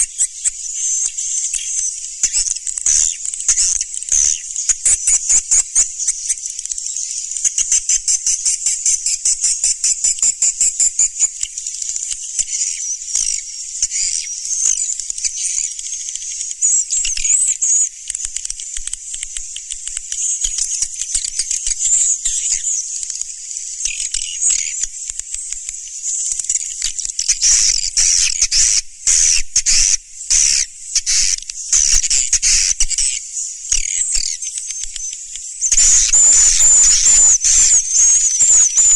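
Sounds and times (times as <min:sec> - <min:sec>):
swiftlets twittering and trilling: 0:00.0 - 0:38.9.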